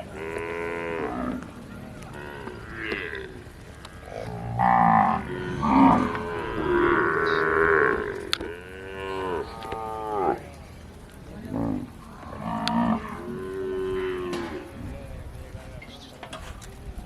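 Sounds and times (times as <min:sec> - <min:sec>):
cows mooing: 0:00.0 - 0:10.6, 0:11.4 - 0:14.8.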